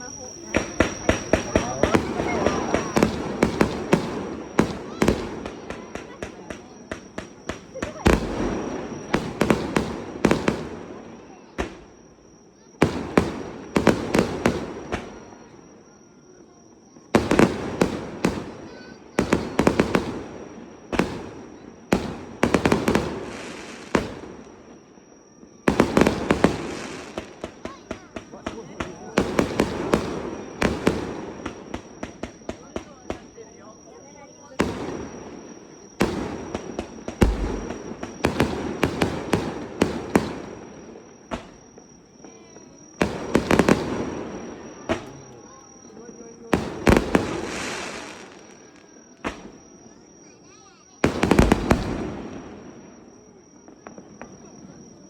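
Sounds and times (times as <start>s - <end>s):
fireworks banging and crackling: 0.0s - 16.2s, 16.9s - 55.0s.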